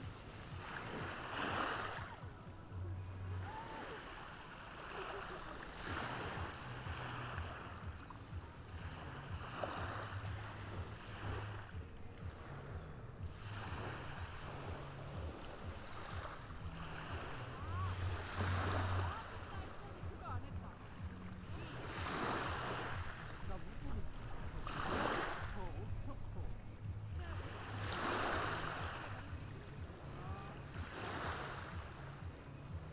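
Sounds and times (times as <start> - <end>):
ocean waves washing ashore: 0.0 - 32.9
wind rumble on microphone: 5.5 - 32.9.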